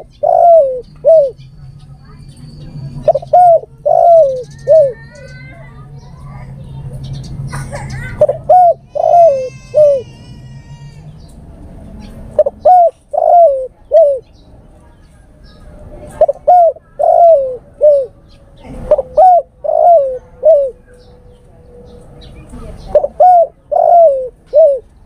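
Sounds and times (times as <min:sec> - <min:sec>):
dove cooing: 0:00.0 - 0:06.7, 0:07.5 - 0:10.9, 0:12.0 - 0:14.4, 0:15.6 - 0:25.0.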